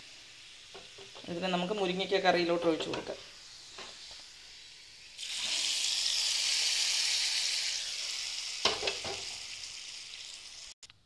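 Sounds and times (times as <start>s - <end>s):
hot oil sizzling: 0.0s - 10.8s.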